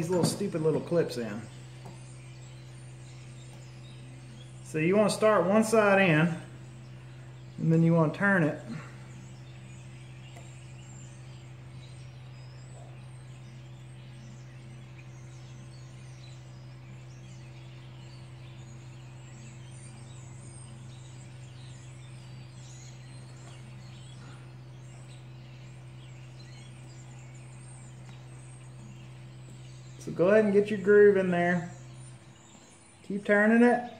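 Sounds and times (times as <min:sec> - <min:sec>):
faint bird chirps: 0:00.0 - 0:33.9
steady low hum: 0:00.0 - 0:33.9.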